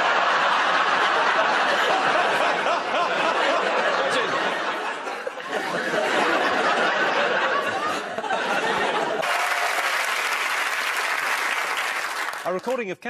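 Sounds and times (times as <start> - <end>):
studio audience laughing: 0.0 - 12.4
crowd applause: 0.0 - 12.6.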